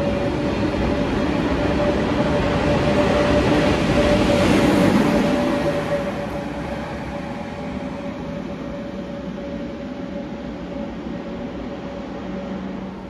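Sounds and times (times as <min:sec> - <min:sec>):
train rolling noise: 0:00.0 - 0:13.0
train rumble with whine: 0:00.0 - 0:13.0.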